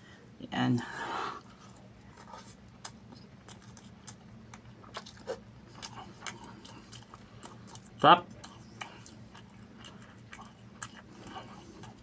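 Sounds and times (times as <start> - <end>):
wet mouth chewing: 1.4 - 12.0.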